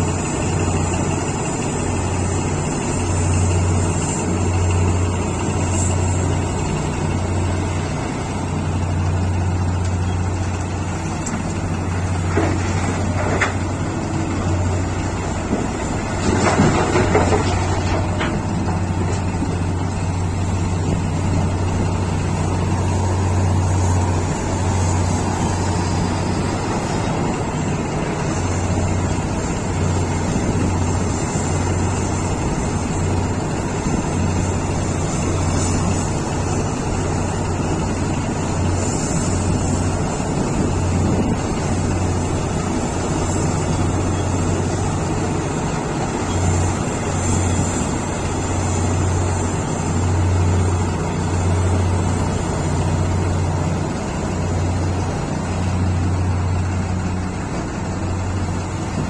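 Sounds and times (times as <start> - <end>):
heavy diesel engines droning: 0.0 - 59.0.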